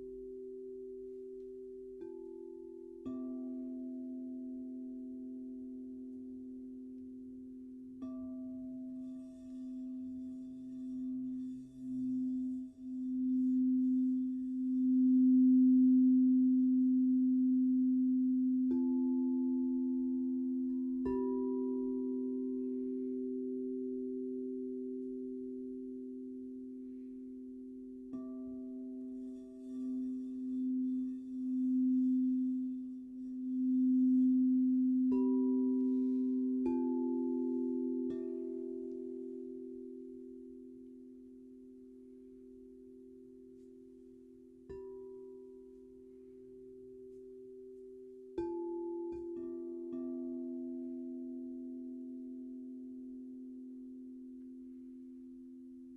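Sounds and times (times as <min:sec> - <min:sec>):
singing bowl long pure tone: 0:00.0 - 0:55.9.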